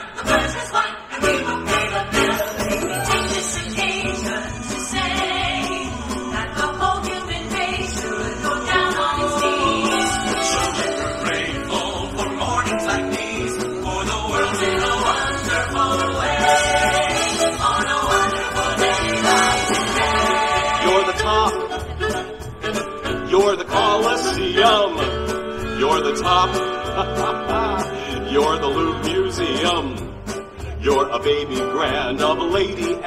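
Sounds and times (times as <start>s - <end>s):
live band with singing: 0.0s - 33.0s.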